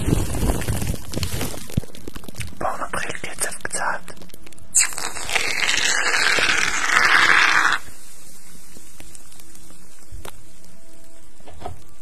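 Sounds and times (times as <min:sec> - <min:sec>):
loud rustling hiss: 0:00.0 - 0:04.1, 0:04.7 - 0:12.0.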